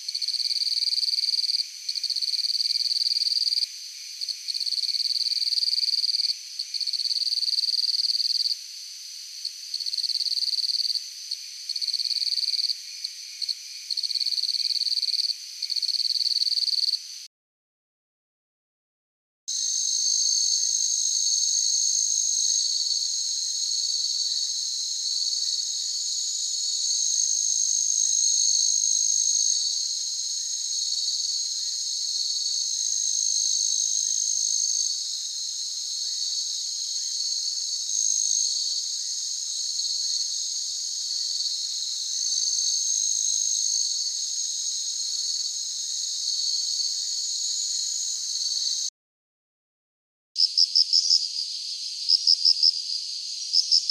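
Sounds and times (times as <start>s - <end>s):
insects trilling: 0.0s - 17.3s, 19.5s - 48.9s, 50.4s - 53.9s.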